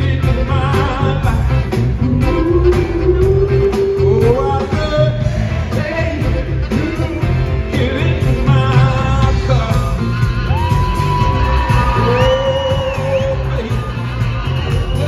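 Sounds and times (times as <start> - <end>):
man singing: 0.0 - 10.3, 12.0 - 14.3
live pop band playing: 0.0 - 15.0.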